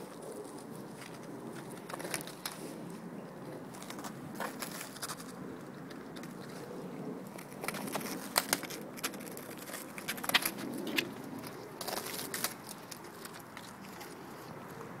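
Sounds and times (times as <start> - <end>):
dogs crunching bread crust: 0.0 - 15.0.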